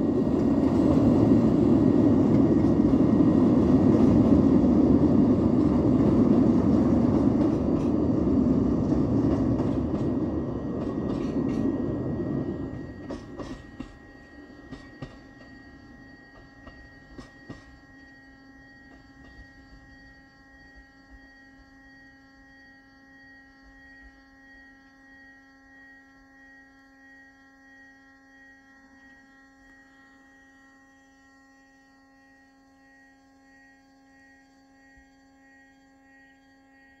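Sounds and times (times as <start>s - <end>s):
diesel railcar hum: 0.0s - 37.0s.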